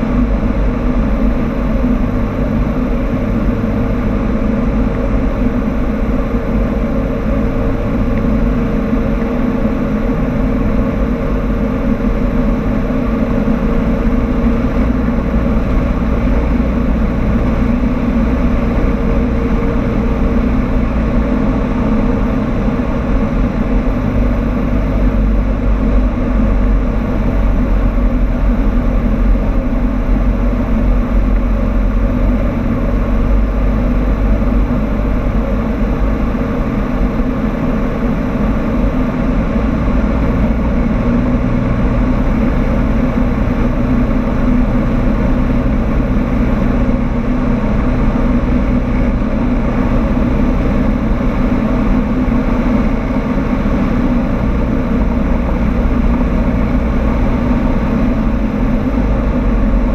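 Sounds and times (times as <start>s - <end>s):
airplane engine and propeller droning: 0.0s - 59.9s.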